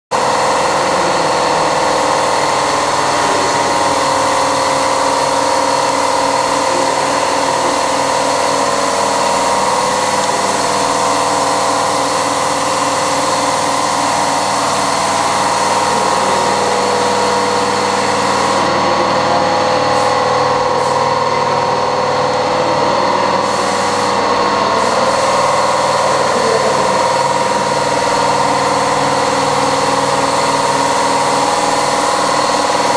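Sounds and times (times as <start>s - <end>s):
air-handling fans droning: 0.1s - 32.9s.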